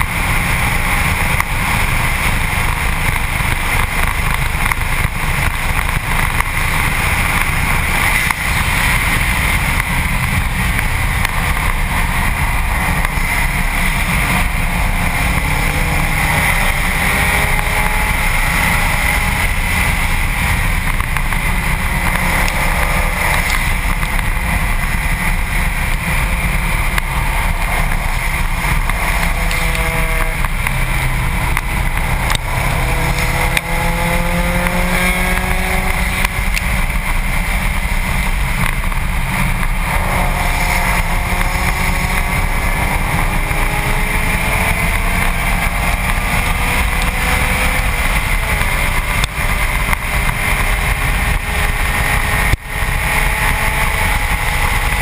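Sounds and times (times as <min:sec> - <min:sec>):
car engine accelerating: 0:00.0 - 0:55.0
wind rushing over camera: 0:00.0 - 0:55.0.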